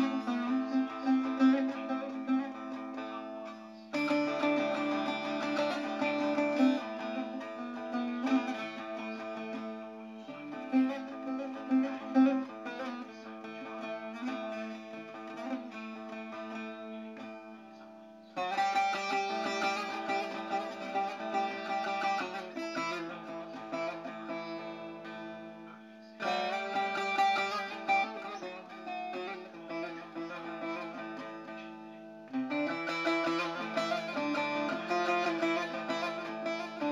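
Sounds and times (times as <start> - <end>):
long-necked lute strummed: 0.0 - 36.9.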